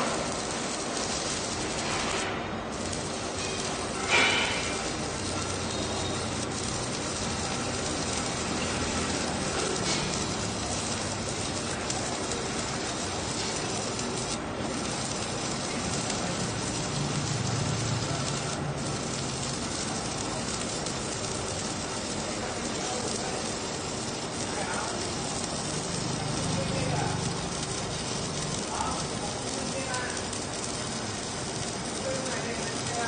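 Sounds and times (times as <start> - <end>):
welding arc crackling and hissing: 0.0 - 33.0.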